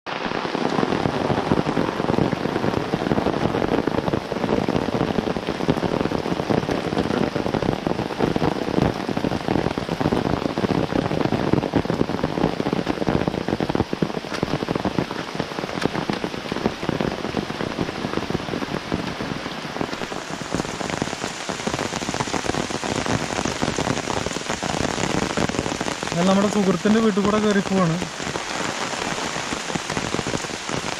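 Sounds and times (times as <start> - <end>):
steady rain: 0.1 - 30.9.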